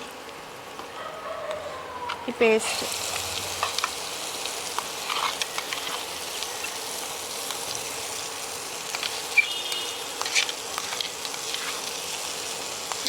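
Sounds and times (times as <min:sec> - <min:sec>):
paste sizzling in hot oil: 0:02.2 - 0:13.0.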